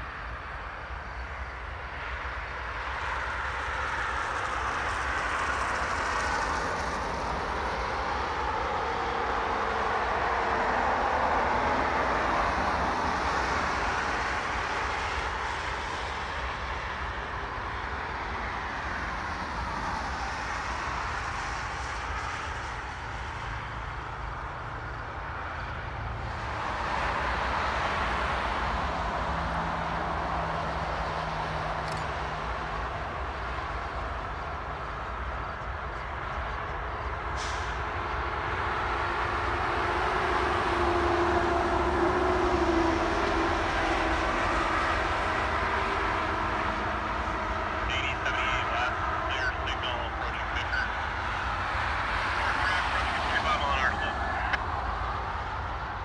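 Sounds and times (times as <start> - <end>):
highway traffic passing: 0.0 - 56.0.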